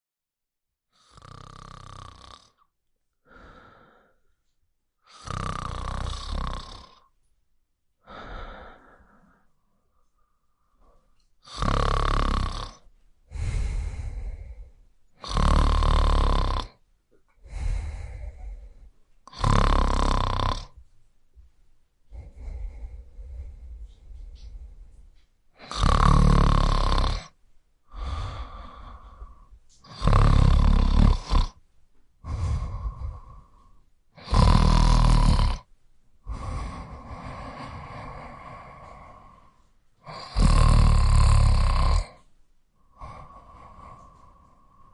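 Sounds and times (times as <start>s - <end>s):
person snoring: 1.0s - 2.7s, 5.1s - 7.1s, 8.0s - 9.4s, 10.8s - 16.8s, 17.4s - 20.8s, 22.1s - 25.0s, 25.6s - 31.6s, 32.2s - 44.9s.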